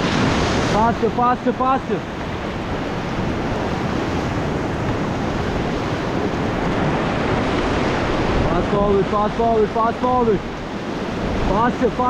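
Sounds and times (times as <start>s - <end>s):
whitewater rushing: 0.0s - 12.0s
wind buffeting the microphone: 2.0s - 12.0s.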